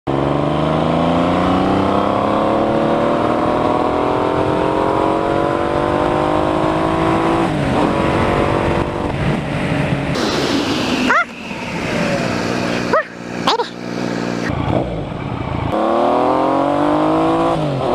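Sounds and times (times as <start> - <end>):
motorcycle engine accelerating: 0.1 - 17.9.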